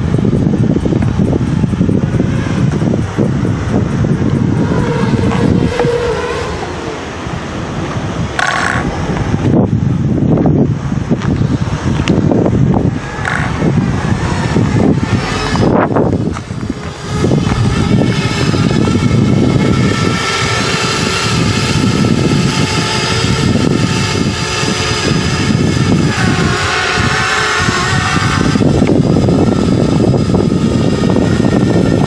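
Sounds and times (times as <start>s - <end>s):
drone propellers whining: 0.0s - 32.0s
low rumble: 0.0s - 32.0s.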